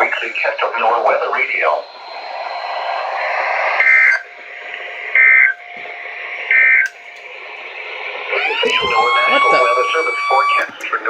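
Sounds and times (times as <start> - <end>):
buzzy two-tone data tones: 0.0 - 11.0
radio static hiss: 0.0 - 11.0.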